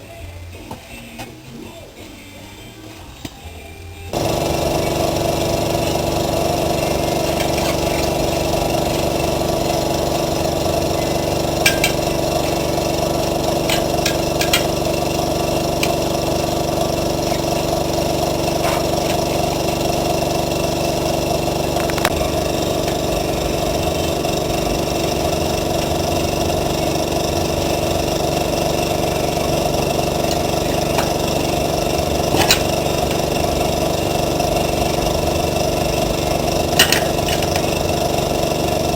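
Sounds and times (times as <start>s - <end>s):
small motor running: 4.0s - 38.9s.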